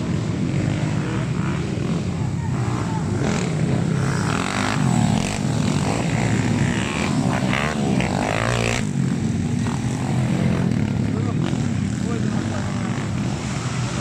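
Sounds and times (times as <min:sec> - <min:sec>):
motorcycle engines racing: 0:00.0 - 0:14.0.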